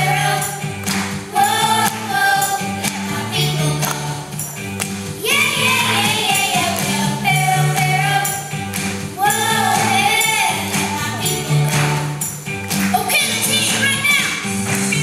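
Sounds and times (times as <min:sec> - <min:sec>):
bass line: 0:00.0 - 0:15.0
jingling percussion: 0:00.0 - 0:15.0
upbeat song with singing: 0:00.0 - 0:15.0.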